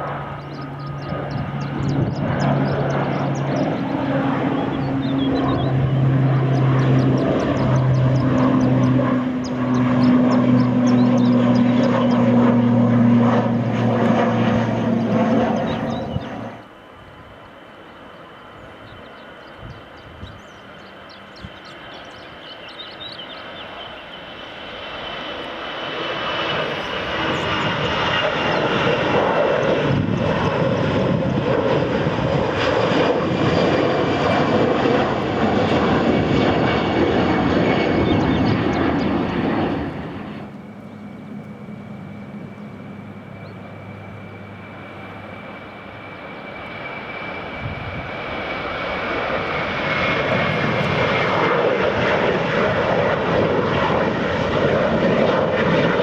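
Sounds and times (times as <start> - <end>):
airliner engines with high whine: 0.0 - 56.0.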